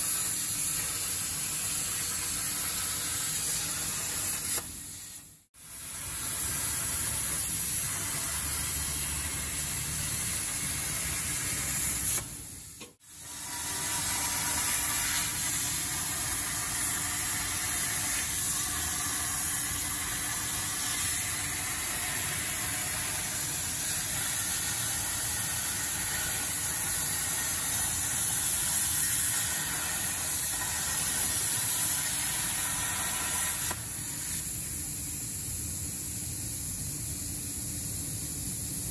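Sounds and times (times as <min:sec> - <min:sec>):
plasma torch hissing: 0:00.0 - 0:38.9.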